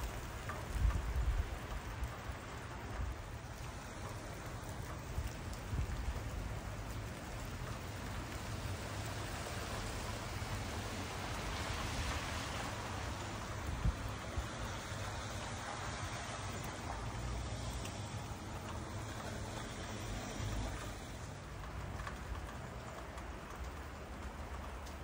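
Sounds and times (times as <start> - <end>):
wet snow falling hiss: 0.0 - 25.0.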